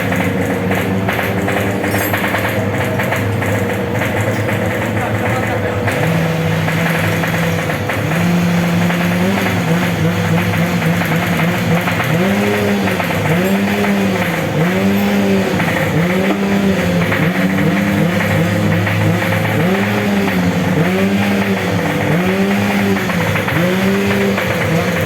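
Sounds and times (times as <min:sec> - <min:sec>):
low engine drone: 0:00.0 - 0:25.0
motorcycle engine revving: 0:00.0 - 0:25.0.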